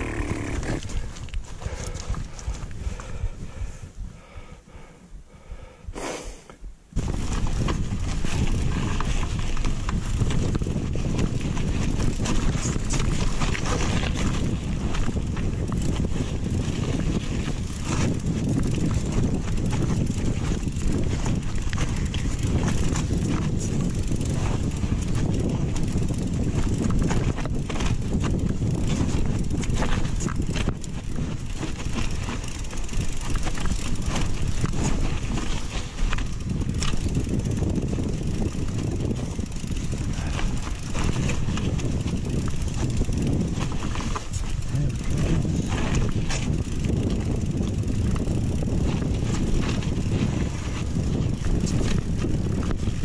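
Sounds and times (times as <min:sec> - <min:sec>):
bike rattling and knocking: 0:00.0 - 0:03.4, 0:06.9 - 0:53.0
wind buffeting microphone: 0:00.0 - 0:06.0, 0:06.6 - 0:53.0.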